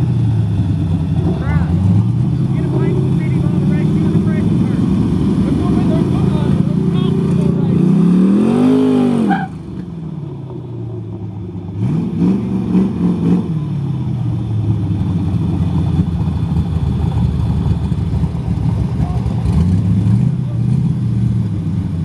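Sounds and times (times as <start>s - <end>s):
drag car engines idling: 0.0s - 7.9s, 9.3s - 11.8s, 13.7s - 22.0s
drag car engines revving: 0.0s - 22.0s.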